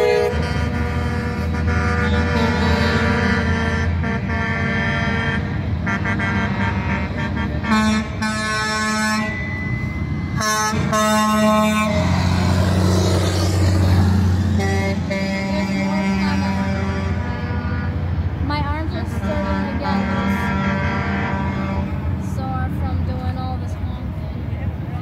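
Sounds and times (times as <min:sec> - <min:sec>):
truck air horns blasting: 0:00.0 - 0:22.6
diesel engines rumbling: 0:00.0 - 0:25.0.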